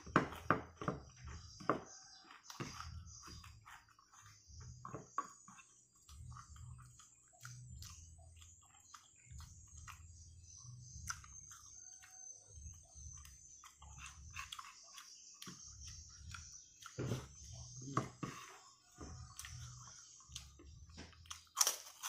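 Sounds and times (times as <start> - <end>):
faint chewing: 1.2 - 22.0.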